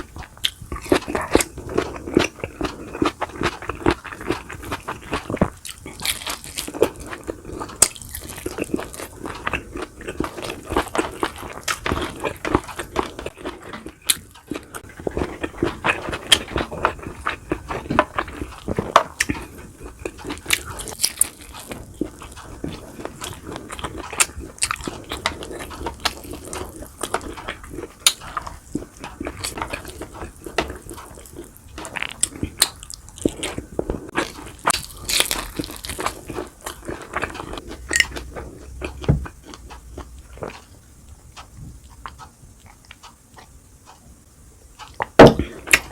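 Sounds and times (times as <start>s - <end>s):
crunching: 0.0s - 44.1s
person chewing food: 0.0s - 45.9s.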